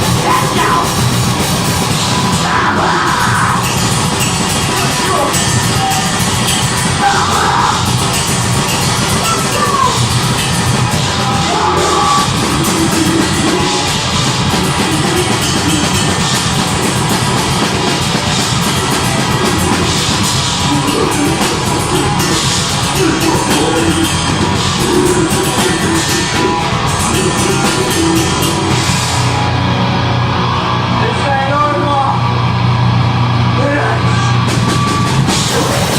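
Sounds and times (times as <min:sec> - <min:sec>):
drum kit: 0:00.0 - 0:35.9
heavy distorted guitars: 0:00.0 - 0:35.9.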